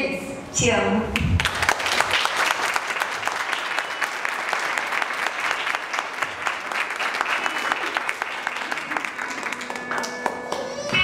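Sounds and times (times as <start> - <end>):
crowd applauding: 1.4 - 11.0.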